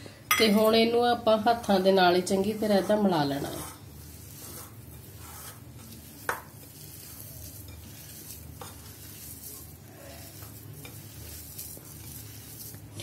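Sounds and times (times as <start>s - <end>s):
hands mashing potatoes: 1.4s - 13.0s.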